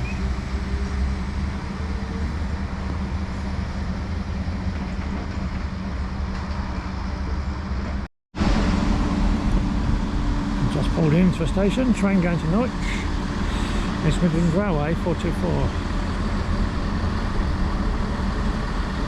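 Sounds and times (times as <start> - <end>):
diesel train engine droning: 0.0 - 19.0.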